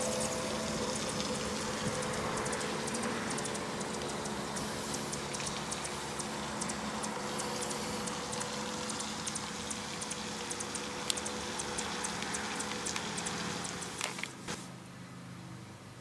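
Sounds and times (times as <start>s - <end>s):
background hiss: 0.0s - 16.0s
mechanical hum with held tones: 0.0s - 16.0s.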